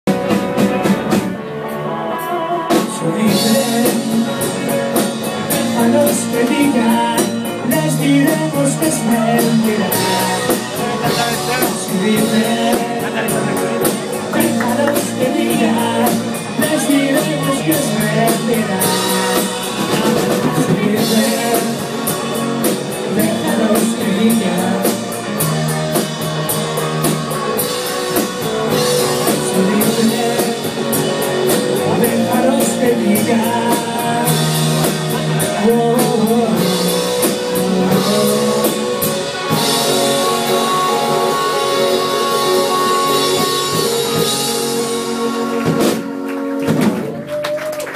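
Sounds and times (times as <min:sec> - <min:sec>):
drum kit: 0:00.0 - 0:47.9
electric guitars: 0:00.1 - 0:47.9
person singing: 0:01.7 - 0:46.1.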